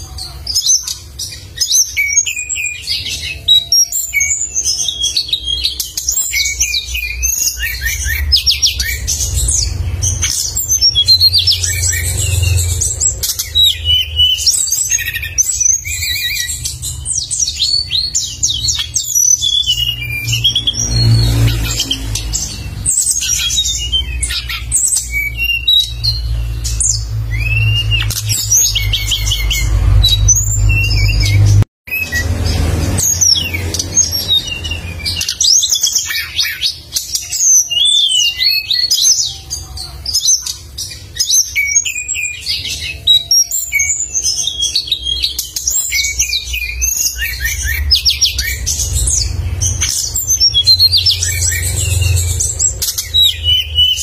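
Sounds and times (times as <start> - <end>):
songbird chirping and trilling: 0.0 - 54.0.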